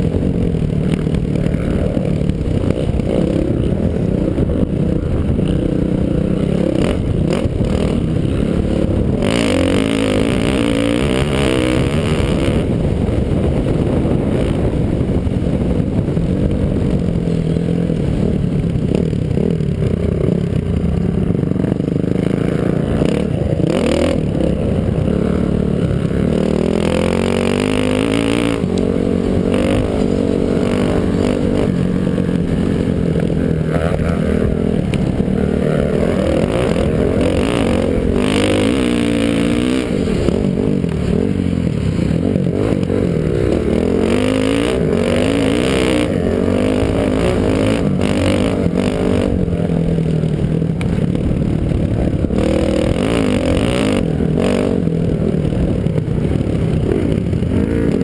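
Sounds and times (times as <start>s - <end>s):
dirt bike engine revving: 0.0s - 58.0s
wind noise on microphone: 0.0s - 58.0s.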